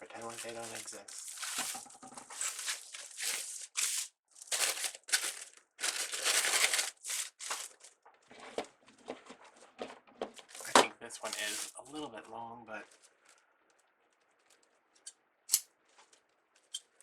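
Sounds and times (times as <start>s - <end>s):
mesh rustling and crinkling: 0.1s - 11.8s, 12.7s - 15.0s, 15.8s - 17.0s.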